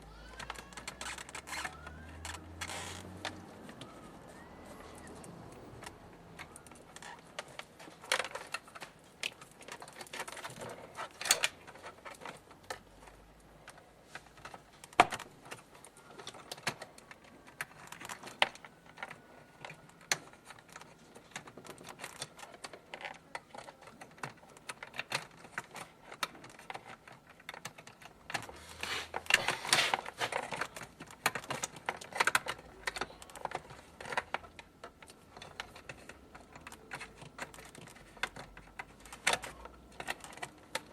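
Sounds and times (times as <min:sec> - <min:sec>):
small parts clicking and knocking: 0:00.0 - 0:40.9.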